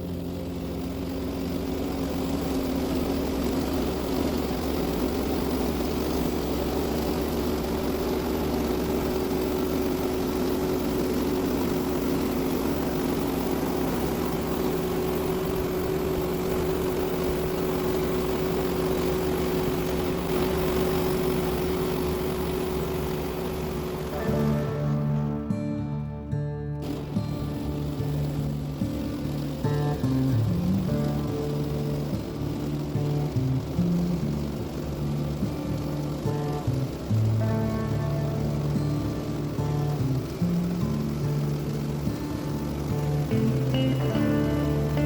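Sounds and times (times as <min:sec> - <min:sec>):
constant whine: 0:00.0 - 0:45.0
sawmill engine running: 0:00.0 - 0:45.0.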